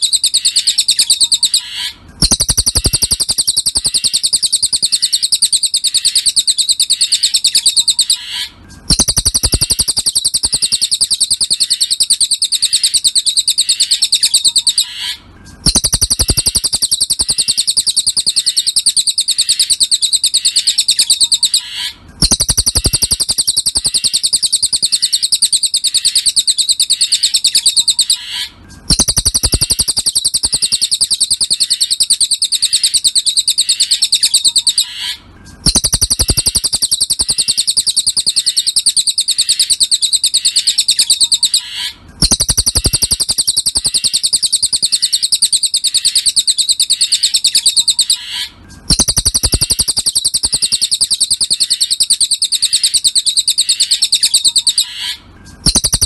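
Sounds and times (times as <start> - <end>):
bird trilling high chipping notes: 0.0 - 56.0.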